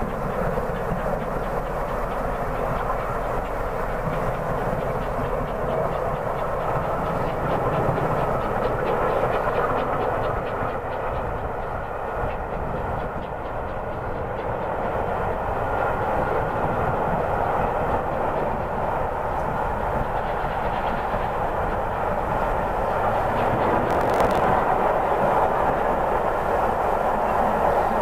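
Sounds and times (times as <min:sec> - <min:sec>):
steam locomotive exhaust rush: 0:00.0 - 0:28.0.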